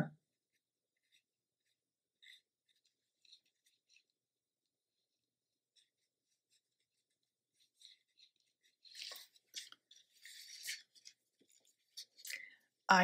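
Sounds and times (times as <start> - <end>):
brush rubbing on paper: 0.2 - 12.2.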